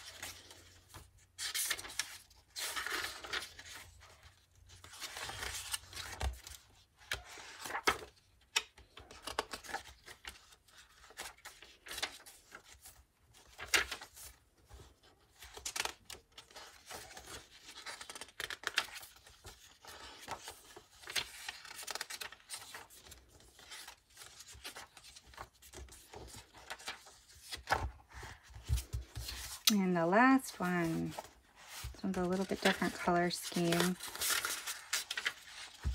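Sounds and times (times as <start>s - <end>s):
paper pages rustling and flapping: 0.0s - 35.9s.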